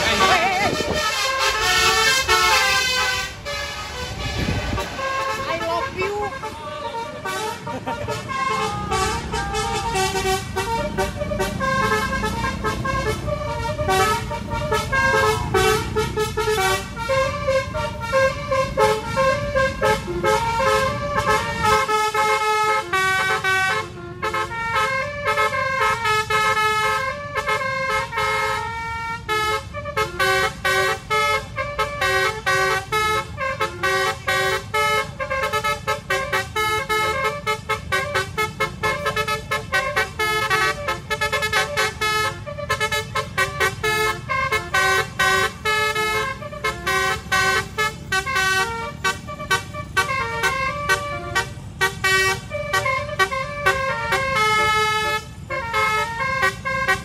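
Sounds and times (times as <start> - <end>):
bus musical horn tooting: 0.0 - 57.0
low road rumble: 0.0 - 57.0.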